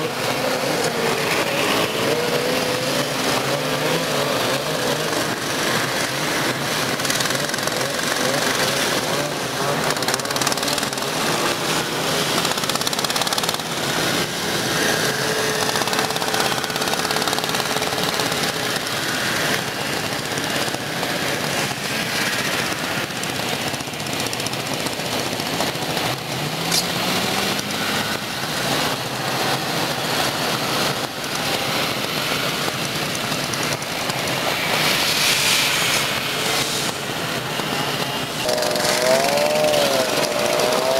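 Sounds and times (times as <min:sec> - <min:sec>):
snowmobile engines passing: 0:00.0 - 0:40.9.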